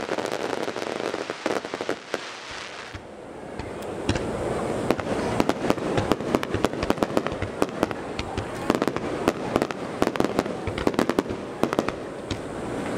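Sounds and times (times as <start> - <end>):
fireworks bangs and cracks: 0.0 - 12.9.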